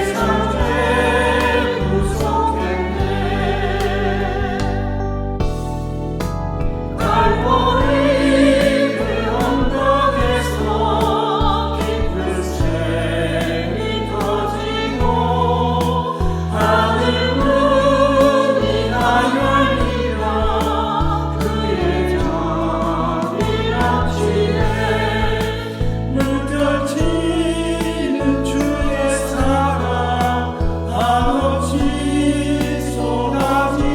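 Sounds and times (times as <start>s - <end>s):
choir singing: 0.0s - 5.6s, 6.9s - 33.9s
instrumental accompaniment: 0.0s - 33.9s.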